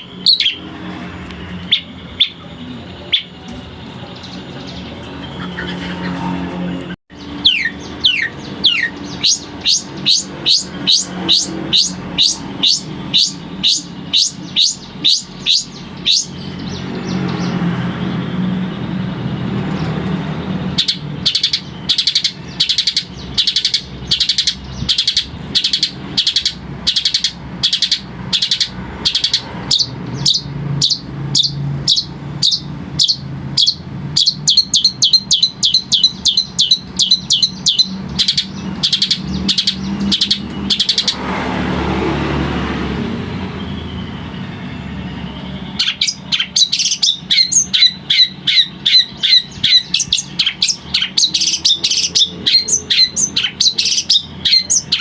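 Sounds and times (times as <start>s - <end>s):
bird singing sharp chirps: 0.0s - 55.0s.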